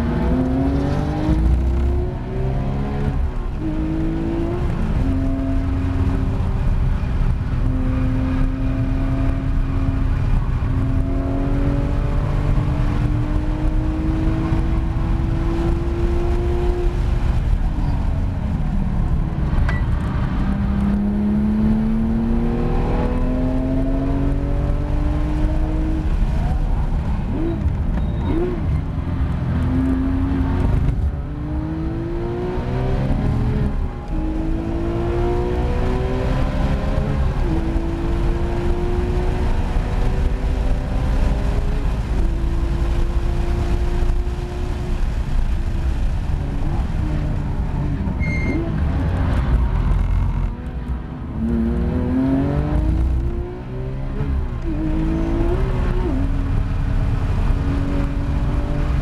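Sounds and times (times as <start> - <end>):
car engine revving with upshifts: 0.0 - 59.0.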